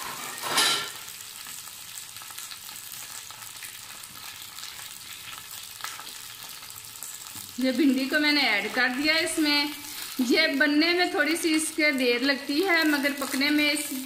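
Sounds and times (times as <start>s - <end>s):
okra sizzling in hot oil: 0.0s - 14.0s.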